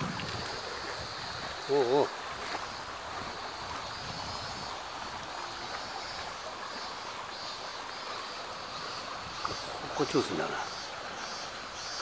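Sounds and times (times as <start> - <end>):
river flowing over stones: 0.0 - 12.0.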